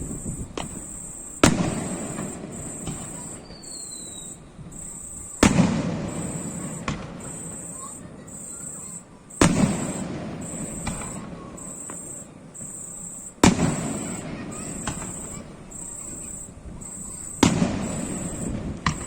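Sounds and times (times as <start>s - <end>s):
firework pops: 0.0s - 8.0s, 8.6s - 19.0s
firework booms: 0.0s - 19.0s.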